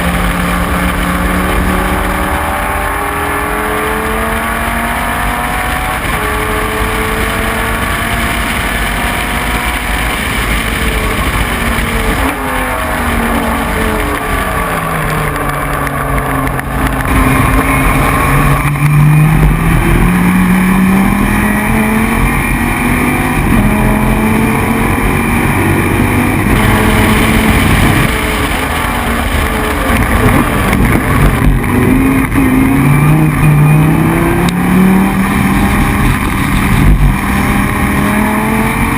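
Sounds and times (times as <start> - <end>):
race car engine shifting gears: 0.0 - 38.9.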